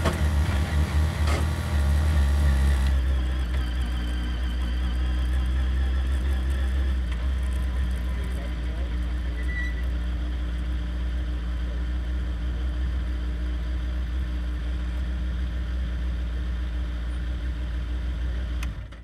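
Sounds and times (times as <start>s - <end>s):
race car engine idling: 0.0s - 19.0s.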